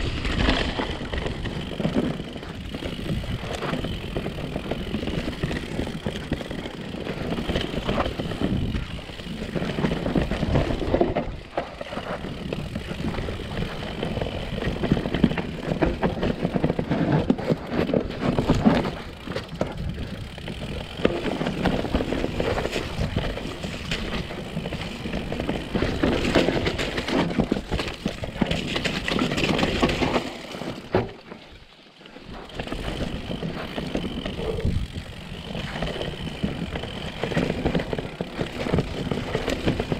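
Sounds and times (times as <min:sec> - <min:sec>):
bike clattering over bumps: 0:00.0 - 0:39.9
bike tyres rumbling on dirt: 0:00.0 - 0:39.9.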